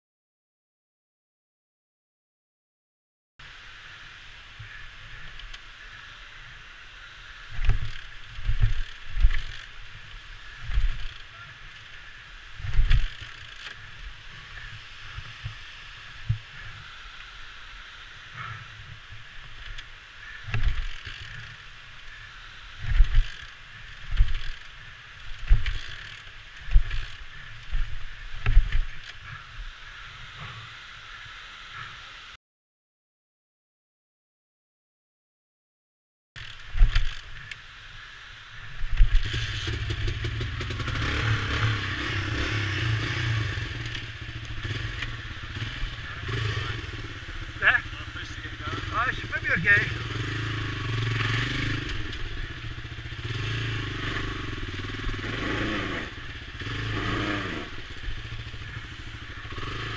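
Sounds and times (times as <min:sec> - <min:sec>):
muffled motorcycle engine drone: 0:03.4 - 0:32.4, 0:36.4 - 0:59.9.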